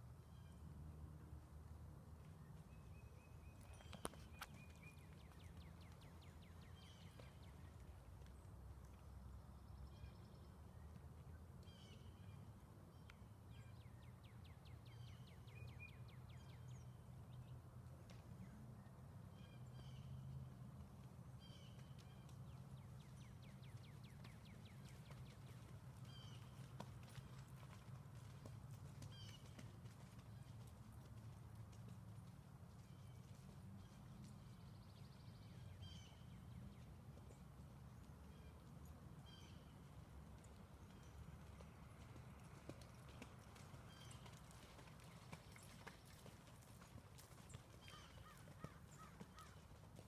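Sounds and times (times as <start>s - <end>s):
songbird singing faintly: 0.1s - 17.7s, 18.3s - 27.4s, 28.4s - 30.9s, 32.7s - 46.4s, 47.0s - 50.0s.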